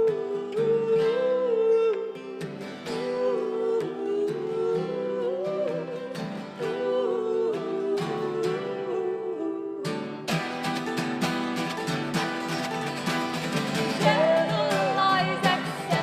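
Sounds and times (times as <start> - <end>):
person singing: 0.0 - 11.0, 12.3 - 16.0
strummed acoustic guitar: 0.0 - 16.0.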